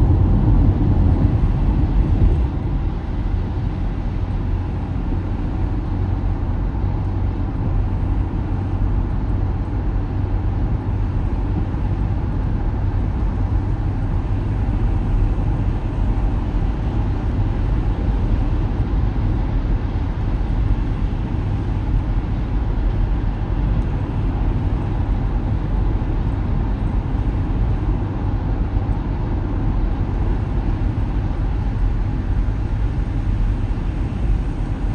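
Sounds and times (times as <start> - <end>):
road rumble inside car: 0.0 - 34.9.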